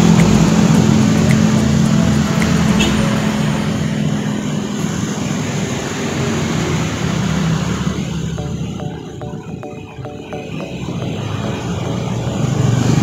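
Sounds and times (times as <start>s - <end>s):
road traffic passing: 0.0s - 9.2s, 10.7s - 13.0s.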